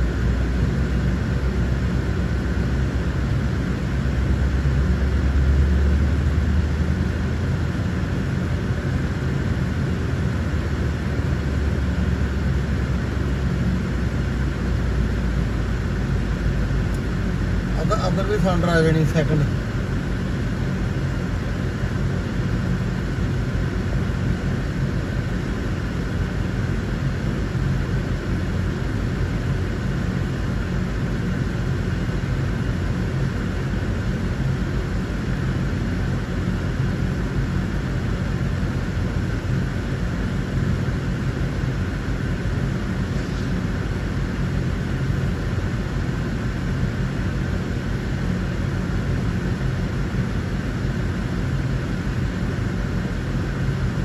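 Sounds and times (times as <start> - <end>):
diesel locomotive idling: 0.0 - 54.0.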